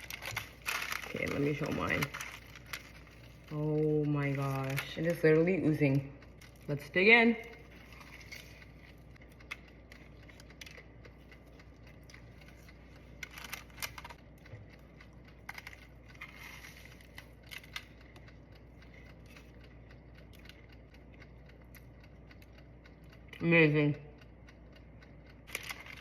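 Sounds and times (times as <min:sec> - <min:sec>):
pastry being bitten and chewed: 0:00.0 - 0:05.0, 0:06.2 - 0:23.3, 0:24.2 - 0:26.0.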